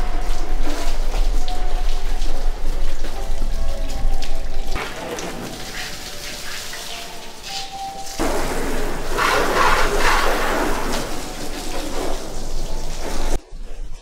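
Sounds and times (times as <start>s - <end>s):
hose water splashing on car: 0.0s - 13.4s.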